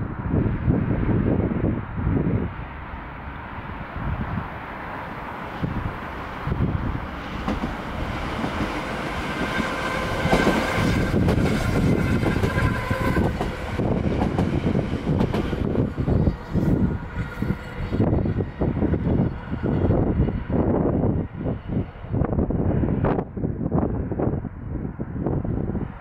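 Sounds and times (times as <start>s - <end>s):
electric train whine: 0.0s - 23.1s
train rolling noise: 0.0s - 26.0s.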